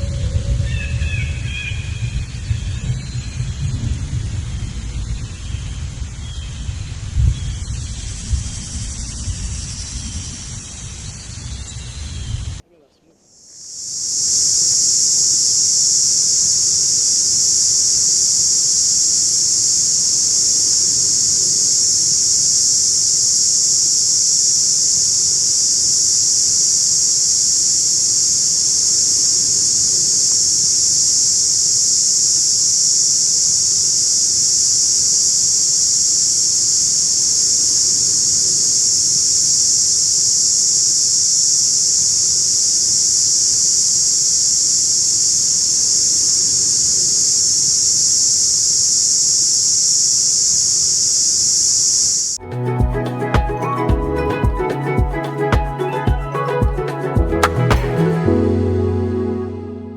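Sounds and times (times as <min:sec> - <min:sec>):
insect chorus: 0:00.0 - 0:56.2.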